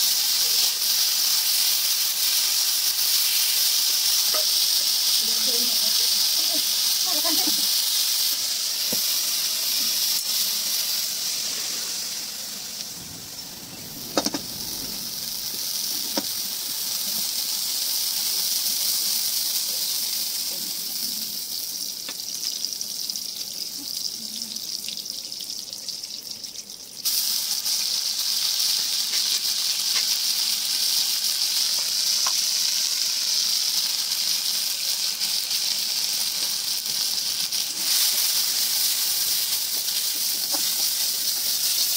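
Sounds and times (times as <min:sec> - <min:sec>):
oil sizzling in a wok: 0:00.0 - 0:41.9.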